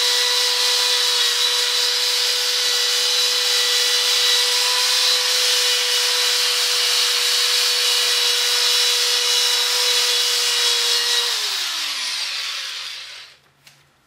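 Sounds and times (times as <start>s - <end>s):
electric drill sanding plastic: 0.0s - 13.4s.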